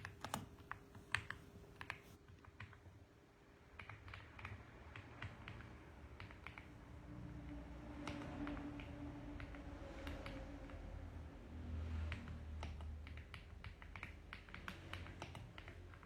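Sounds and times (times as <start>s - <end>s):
typing on mechanical keyboard: 0.0s - 10.9s, 11.9s - 16.0s.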